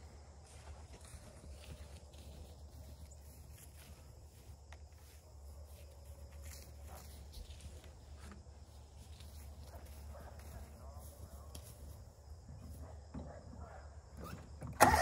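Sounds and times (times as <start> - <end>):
footsteps walking past: 0.0 - 13.0.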